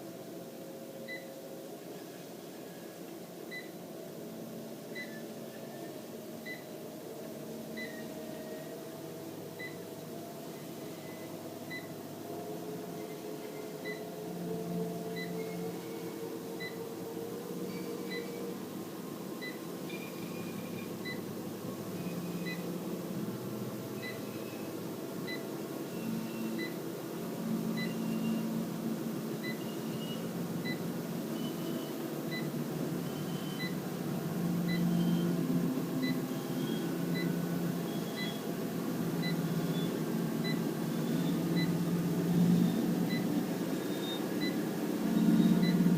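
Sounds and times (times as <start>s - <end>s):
faint motor whine: 0.0s - 45.9s.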